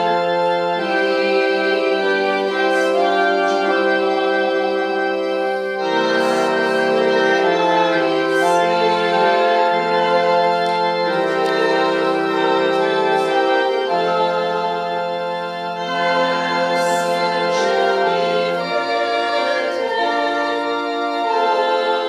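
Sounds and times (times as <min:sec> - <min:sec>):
organ playing hymn chords: 0:00.0 - 0:22.0.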